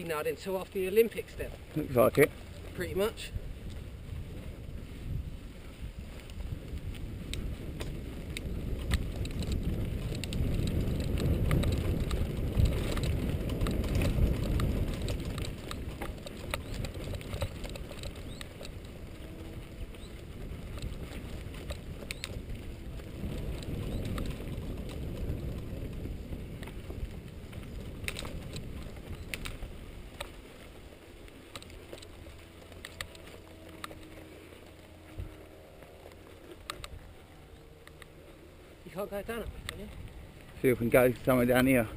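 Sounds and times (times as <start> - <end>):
bike clicks and rattles: 0.0 - 41.9
bike tyres rumbling on grass: 0.0 - 41.9.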